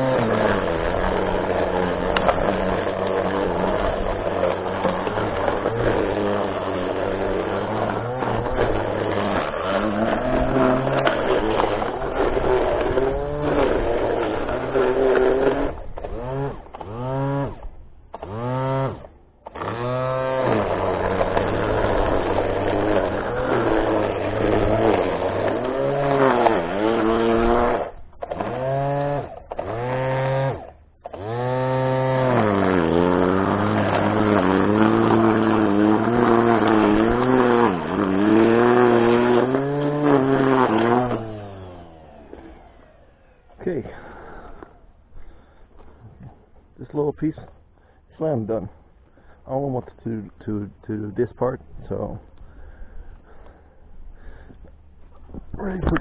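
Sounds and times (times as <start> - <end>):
small gasoline engine revving: 0.0 - 48.7.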